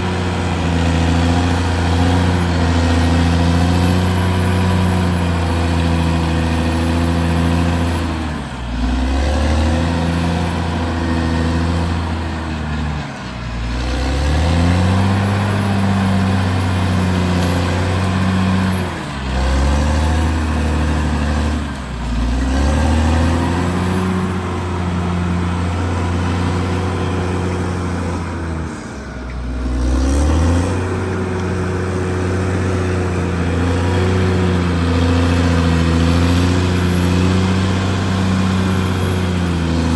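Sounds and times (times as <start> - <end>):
bulldozer diesel engine running hard: 0.0 - 39.9.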